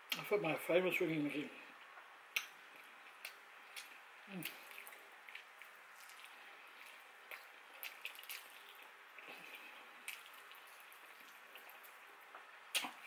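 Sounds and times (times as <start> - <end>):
wet chewing clicks and smacks: 1.9 - 13.0.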